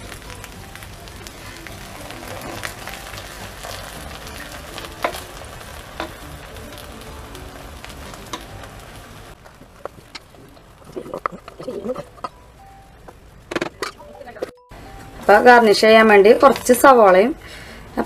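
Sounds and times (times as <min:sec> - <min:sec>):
food sizzling in metal pot: 0:00.0 - 0:18.0.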